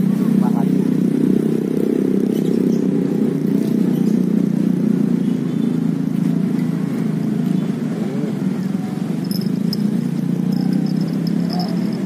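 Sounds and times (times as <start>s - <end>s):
road traffic drone: 0.0s - 12.0s.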